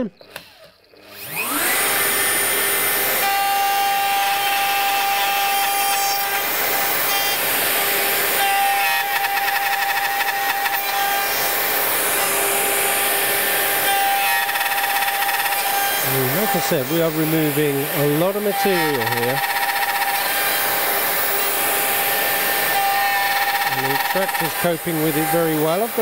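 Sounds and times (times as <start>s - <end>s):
router cutting wood: 0.0s - 26.0s.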